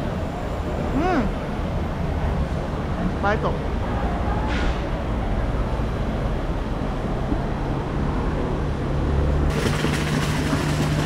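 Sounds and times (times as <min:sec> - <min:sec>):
city street rumble and hum: 0:00.0 - 0:11.0.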